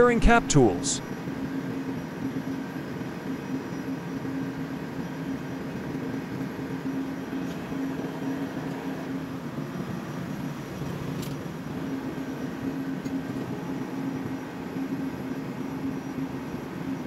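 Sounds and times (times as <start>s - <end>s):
engine room machinery drone: 0.0s - 17.0s.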